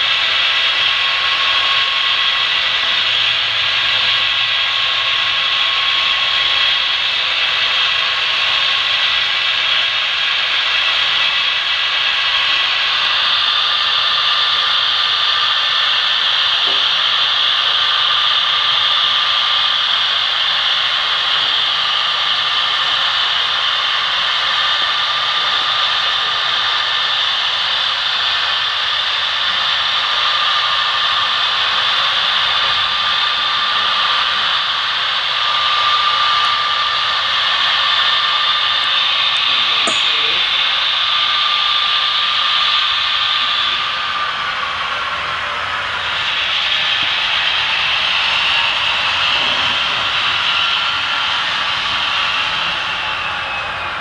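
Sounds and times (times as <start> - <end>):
model train rolling on track: 0.0 - 54.0.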